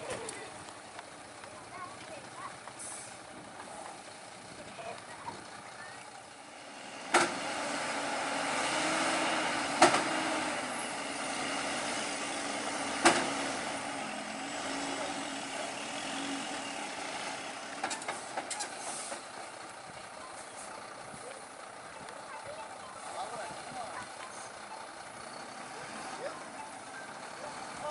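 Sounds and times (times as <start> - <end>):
heavy truck engine running: 0.0 - 27.9.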